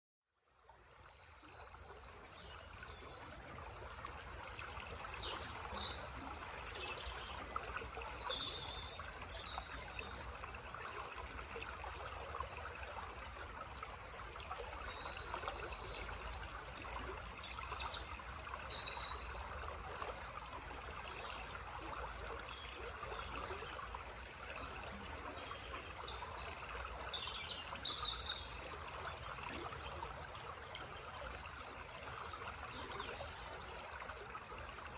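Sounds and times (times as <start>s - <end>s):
forest stream gurgling: 0.4s - 34.9s.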